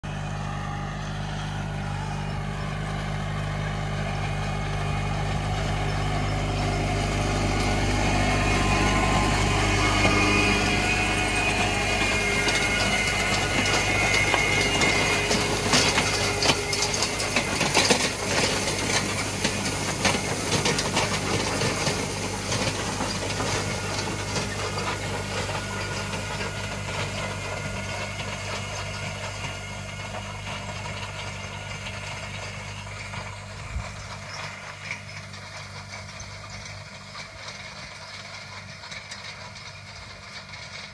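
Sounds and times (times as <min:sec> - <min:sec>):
tractor engine running: 0:00.0 - 0:40.9
rake wheels rattling: 0:00.1 - 0:40.9.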